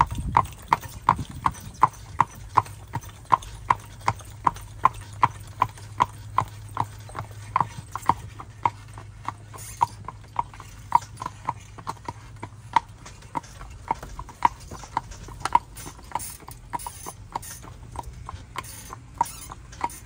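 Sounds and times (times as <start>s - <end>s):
hooves clip-clopping on pavement: 0.0s - 20.0s.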